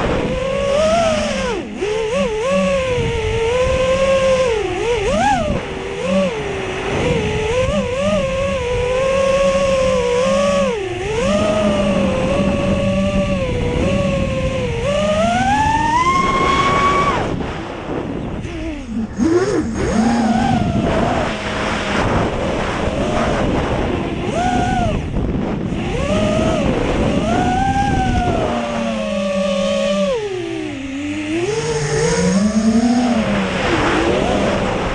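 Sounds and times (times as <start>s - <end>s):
quadcopter motors whining: 0.0s - 34.9s
wind noise: 0.0s - 34.9s.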